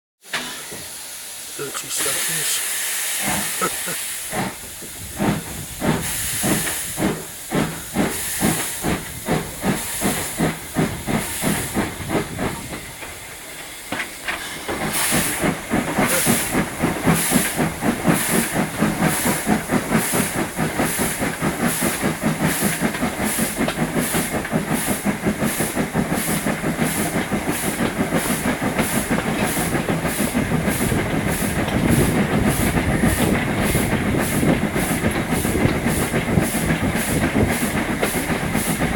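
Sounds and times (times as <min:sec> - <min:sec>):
steam hissing: 0:00.2 - 0:38.9
steam locomotive chuffing: 0:00.2 - 0:38.9.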